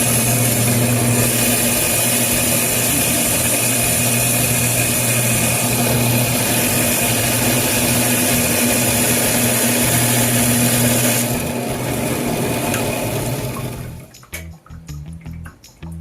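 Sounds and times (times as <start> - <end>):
band saw motor hum: 0.0 - 14.2.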